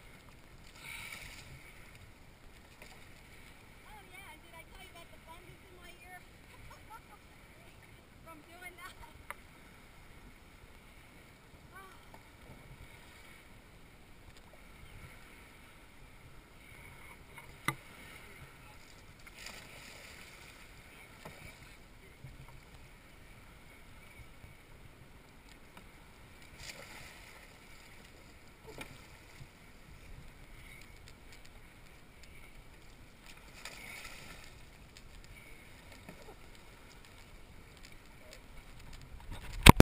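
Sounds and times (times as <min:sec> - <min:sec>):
water splashing around kayak: 0:00.0 - 0:39.8.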